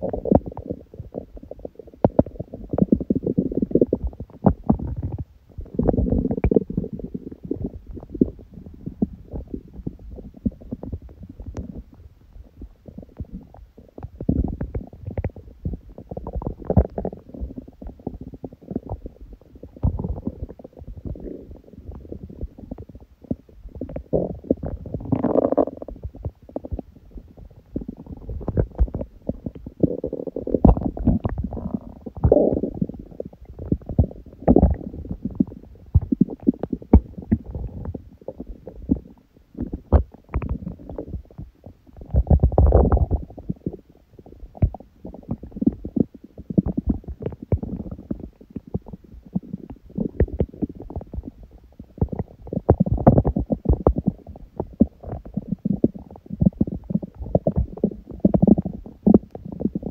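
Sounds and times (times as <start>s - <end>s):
stomach growling: 0.0s - 59.9s.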